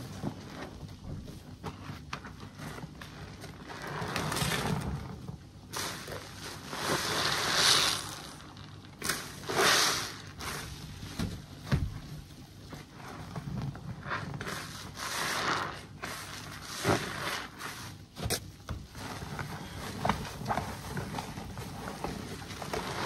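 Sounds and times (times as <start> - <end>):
sponges squelching in sudsy water: 0.0 - 23.0.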